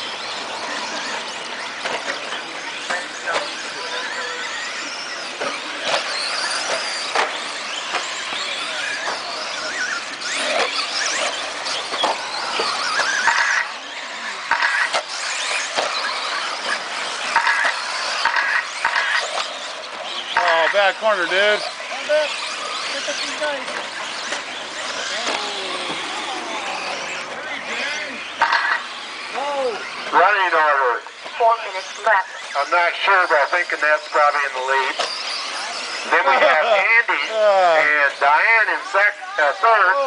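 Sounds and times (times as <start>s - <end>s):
rc truck motor whine: 0.0s - 40.0s
sharp clacks from landings: 0.2s - 3.8s, 4.9s - 13.8s, 14.4s - 36.6s.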